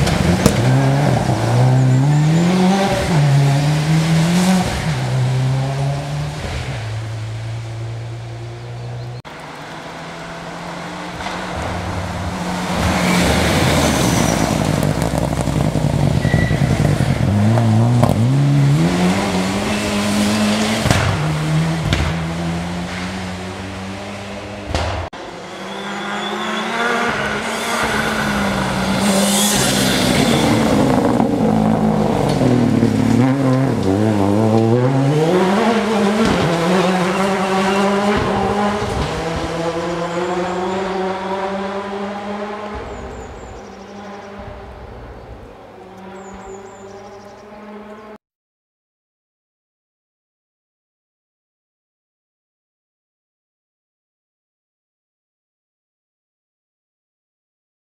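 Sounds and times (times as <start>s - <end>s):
rally car engines revving: 0.0s - 48.2s.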